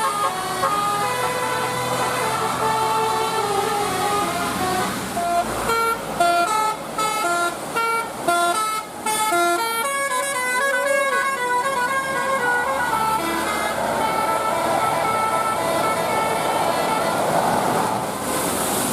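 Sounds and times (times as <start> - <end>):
bus musical horn tune: 0.0 - 17.5.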